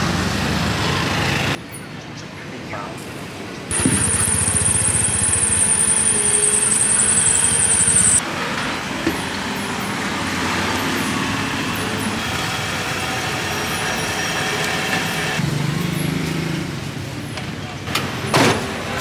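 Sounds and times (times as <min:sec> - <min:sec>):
motor vehicles passing: 0:00.0 - 0:01.6, 0:03.7 - 0:08.2, 0:09.6 - 0:19.0.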